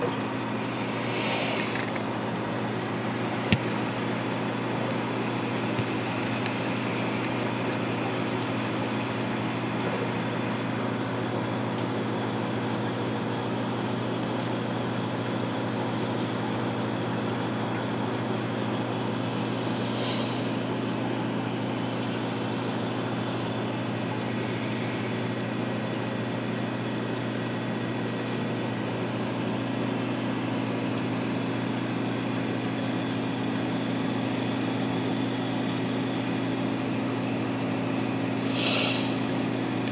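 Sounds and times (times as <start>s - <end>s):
aquarium pumps humming: 0.0s - 39.9s.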